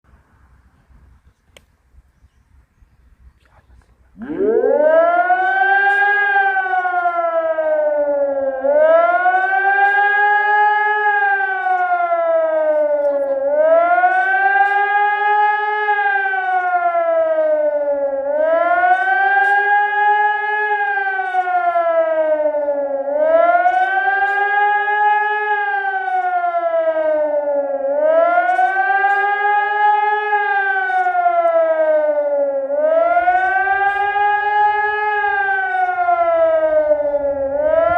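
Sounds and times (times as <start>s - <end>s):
warning siren wailing: 3.8s - 37.9s.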